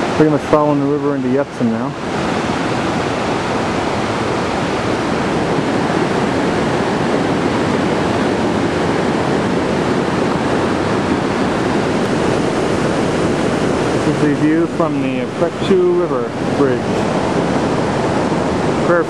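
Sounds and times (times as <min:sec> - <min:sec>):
river rushing over boulders: 0:00.0 - 0:19.0.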